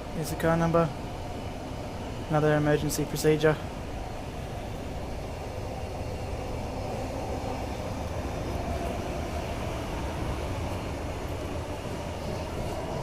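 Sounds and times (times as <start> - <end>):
train carriage rumble and hum: 0.0 - 13.0.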